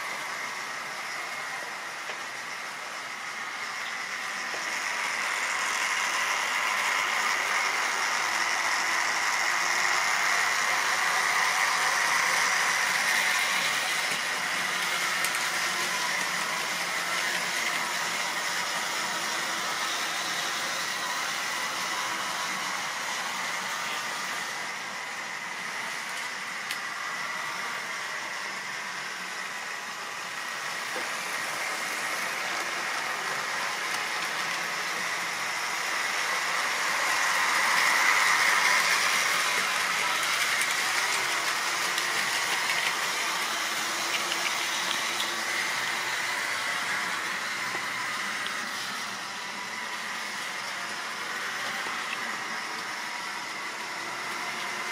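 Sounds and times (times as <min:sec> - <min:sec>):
model train running on track: 0:00.0 - 0:54.9.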